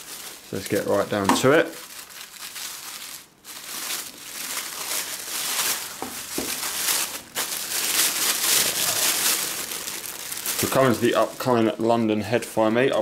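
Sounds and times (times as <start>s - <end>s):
tissue paper crinkling: 0.0s - 13.0s.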